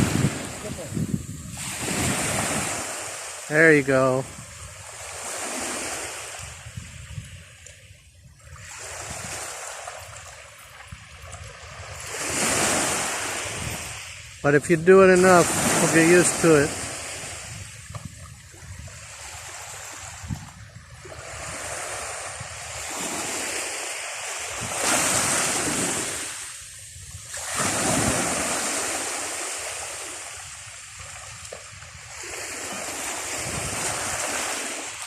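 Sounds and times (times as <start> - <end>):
ocean surf washing up beach: 0.0 - 35.0.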